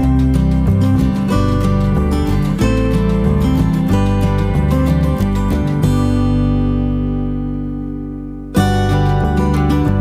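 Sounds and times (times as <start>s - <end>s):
guitar chords strummed: 0.0s - 10.0s.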